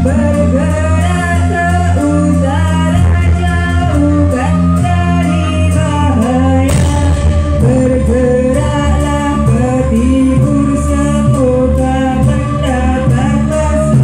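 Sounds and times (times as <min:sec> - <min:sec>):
deep bass: 0:00.0 - 0:14.0
drums: 0:00.0 - 0:14.0
person singing wavering melody: 0:00.0 - 0:14.0.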